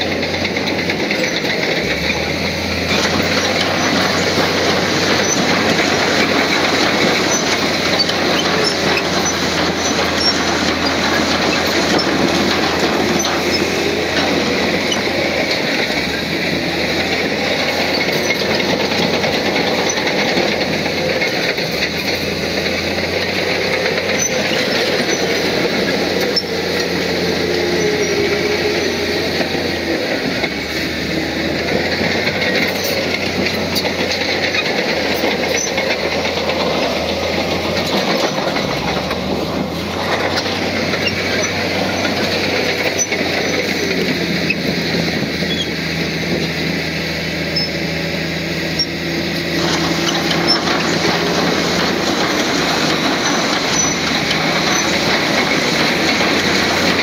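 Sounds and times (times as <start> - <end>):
bulldozer diesel engine: 0.0 - 57.0
steel tracks clattering: 0.0 - 57.0.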